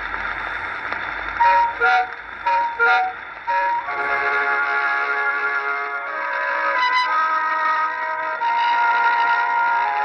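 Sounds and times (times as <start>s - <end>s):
gramophone music with held chords: 0.0s - 10.0s
record surface hiss: 0.0s - 10.0s.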